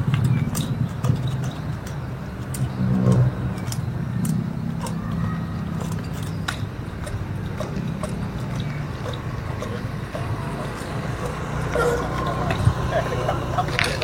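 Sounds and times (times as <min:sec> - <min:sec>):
bicycle clicks and knocks: 0:00.0 - 0:14.0.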